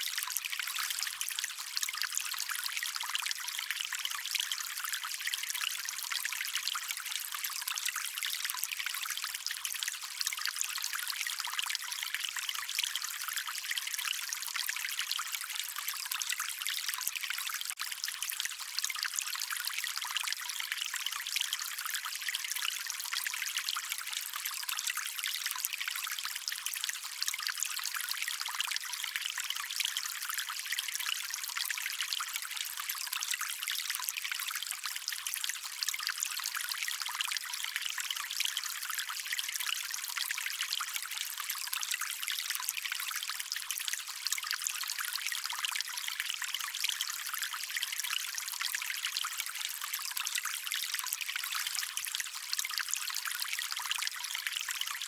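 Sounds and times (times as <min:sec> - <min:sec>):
stream water trickling and babbling: 0:00.0 - 0:55.0.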